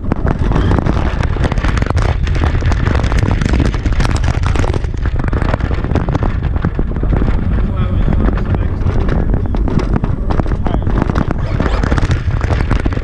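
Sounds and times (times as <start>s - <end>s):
rc truck rumbling over asphalt: 0.0s - 13.0s
tyres and chassis crackling rattling: 0.0s - 13.0s
wind buffeting microphone: 0.0s - 13.0s.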